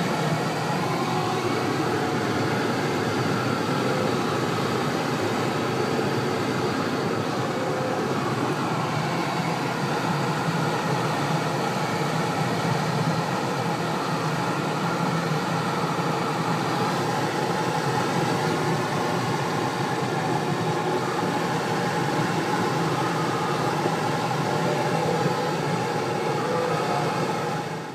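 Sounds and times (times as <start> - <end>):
airflow hissing over canopy: 0.0 - 27.9.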